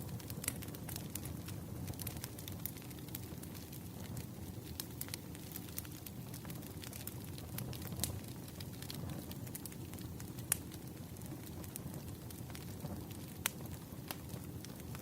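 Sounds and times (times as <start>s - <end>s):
fireplace crackling and popping: 0.0s - 15.0s.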